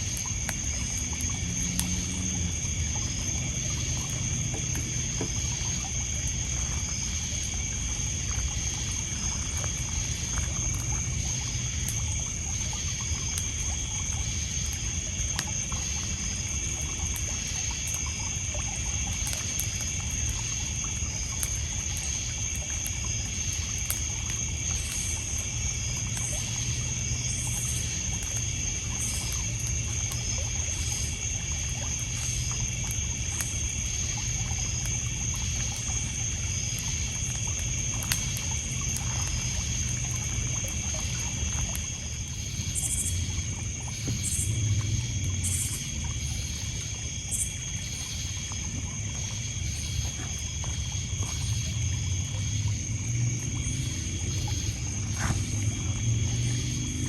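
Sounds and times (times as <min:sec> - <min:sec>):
bonfire crackling: 0:00.0 - 0:57.0
crickets and insects trilling: 0:00.0 - 0:57.0.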